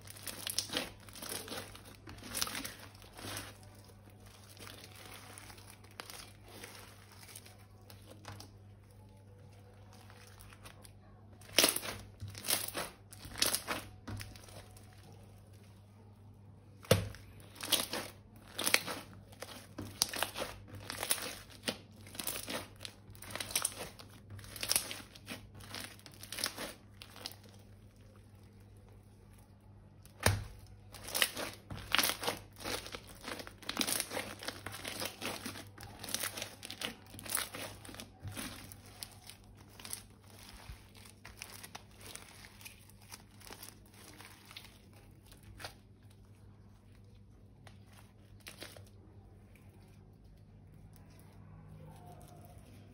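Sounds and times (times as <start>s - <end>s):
plastic bags crinkling: 0.0s - 15.9s, 16.9s - 50.4s.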